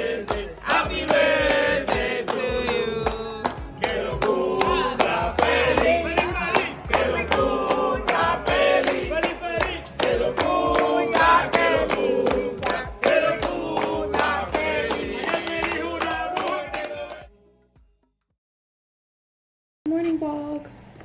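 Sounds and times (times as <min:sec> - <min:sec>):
pop song with vocals: 0:00.0 - 0:17.4.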